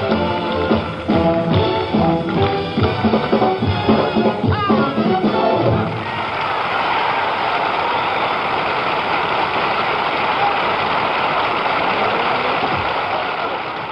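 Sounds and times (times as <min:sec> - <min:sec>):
audience applauding: 0:00.0 - 0:04.2, 0:05.8 - 0:13.9.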